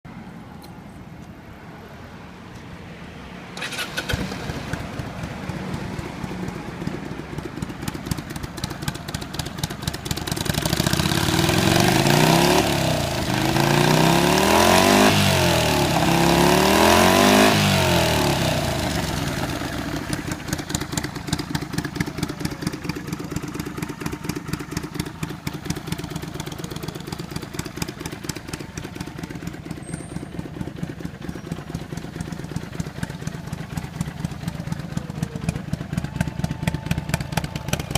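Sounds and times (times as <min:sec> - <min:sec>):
motorcycle engine idling and revving: 0:02.8 - 0:37.9.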